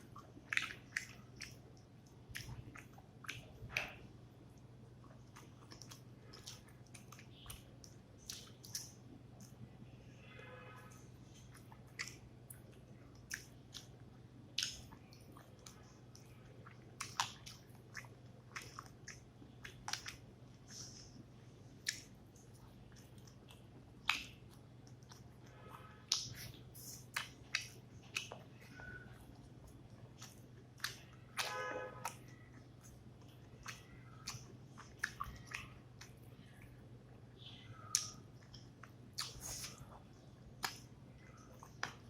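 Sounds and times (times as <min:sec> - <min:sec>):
chewing and mouth sounds: 0:00.0 - 0:09.6, 0:10.8 - 0:42.0.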